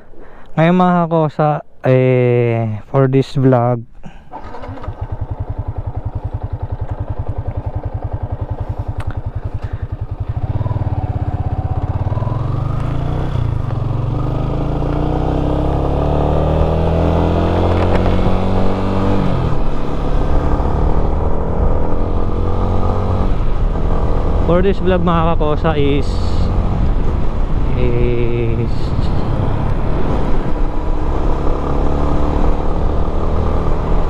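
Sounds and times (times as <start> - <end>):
motorcycle engine idling and revving: 4.3 - 34.0.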